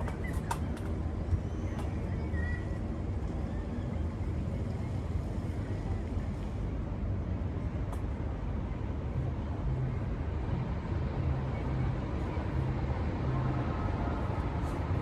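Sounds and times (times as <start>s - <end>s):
vehicle and road rumble: 0.0s - 15.0s.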